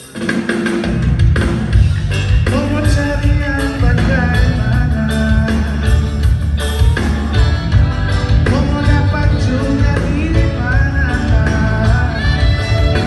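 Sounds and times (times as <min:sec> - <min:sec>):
rock band playing: 0:00.0 - 0:13.0
person singing: 0:02.2 - 0:13.0.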